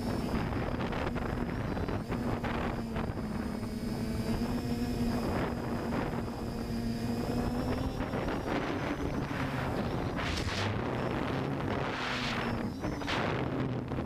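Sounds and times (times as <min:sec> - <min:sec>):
drone propellers humming: 0:00.0 - 0:14.0
wind noise on microphone: 0:00.0 - 0:14.0.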